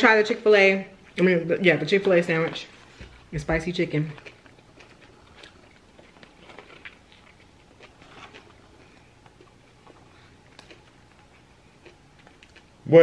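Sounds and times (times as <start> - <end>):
faint crunchy chewing: 1.9 - 12.9.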